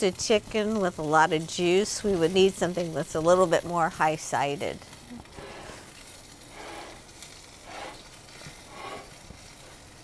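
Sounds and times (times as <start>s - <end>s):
steak sizzling in a pan: 0.0s - 10.0s.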